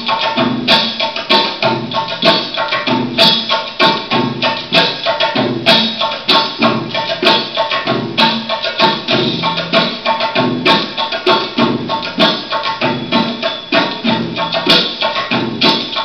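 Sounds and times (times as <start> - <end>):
steady held tones: 0.0 - 16.0.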